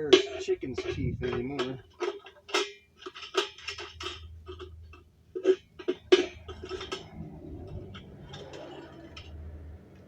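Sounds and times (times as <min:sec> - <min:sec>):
metal tools clanking on metal: 0:00.0 - 0:09.6.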